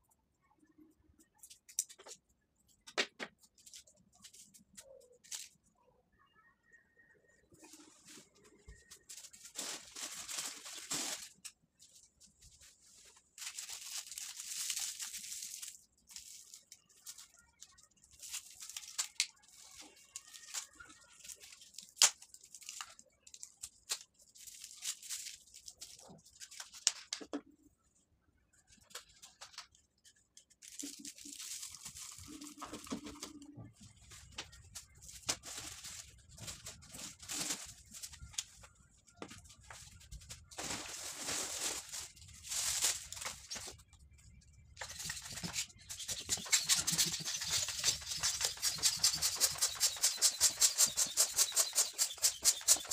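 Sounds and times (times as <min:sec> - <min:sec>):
plastic and cardboard crinkling: 0:07.4 - 0:27.4, 0:28.7 - 0:52.9.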